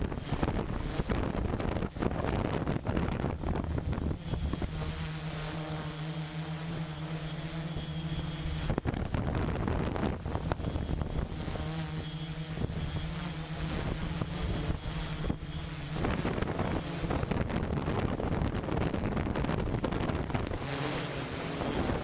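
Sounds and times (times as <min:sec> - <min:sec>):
construction machinery engine droning: 0:00.0 - 0:22.0.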